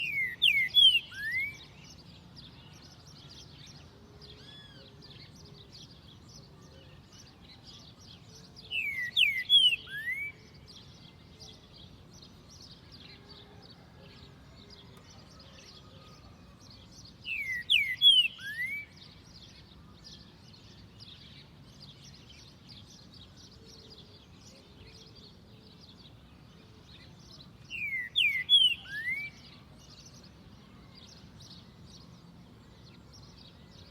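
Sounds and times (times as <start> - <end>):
faint high chirps chatter: 0.0 - 33.9.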